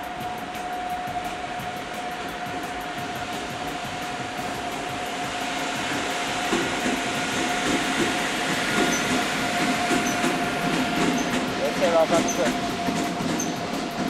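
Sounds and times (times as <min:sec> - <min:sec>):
locomotive hum and rumble: 0:00.0 - 0:14.0.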